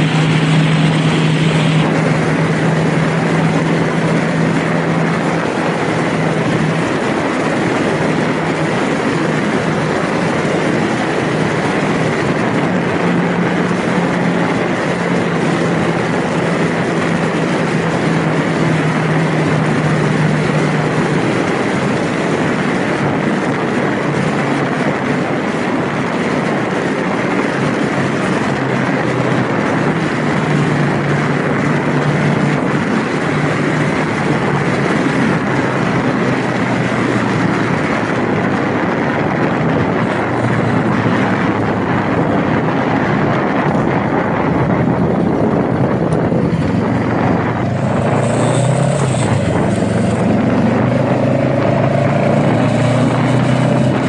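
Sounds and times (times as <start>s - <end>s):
motorcycle engine hum: 0.0s - 54.0s
wind noise on microphone: 0.0s - 54.0s.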